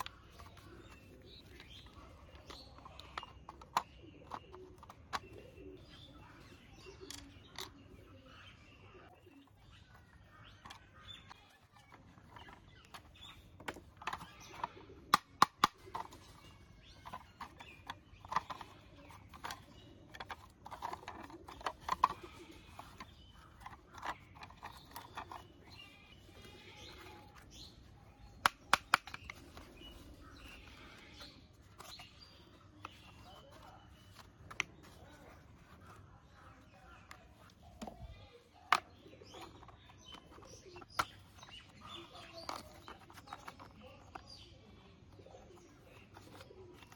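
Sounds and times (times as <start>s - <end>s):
plastic toy parts clicking: 0.0s - 5.5s, 6.4s - 7.9s, 9.7s - 44.5s, 45.1s - 46.9s
birds chirping: 0.0s - 46.9s.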